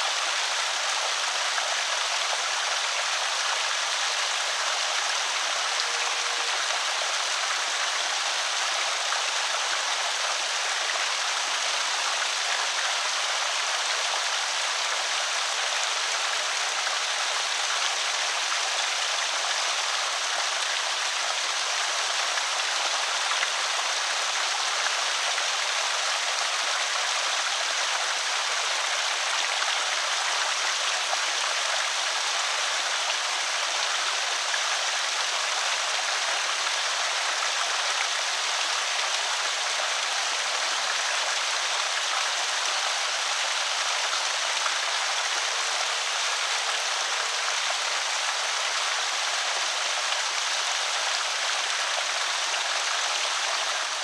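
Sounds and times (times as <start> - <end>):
creek water pouring over spillway: 0.0 - 54.0.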